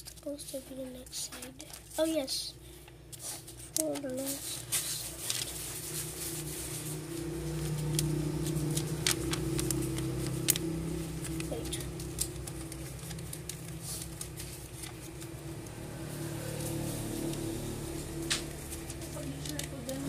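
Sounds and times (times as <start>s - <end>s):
paper rustling and crackling: 0.0s - 20.0s
steady low hum: 1.7s - 20.0s.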